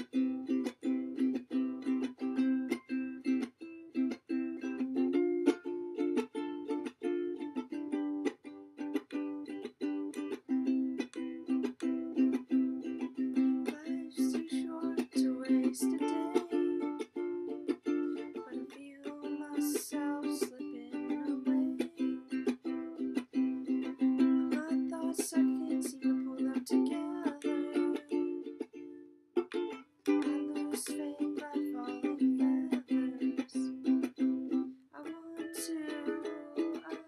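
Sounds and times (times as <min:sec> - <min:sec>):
ukulele strumming chords: 0:00.0 - 0:37.0.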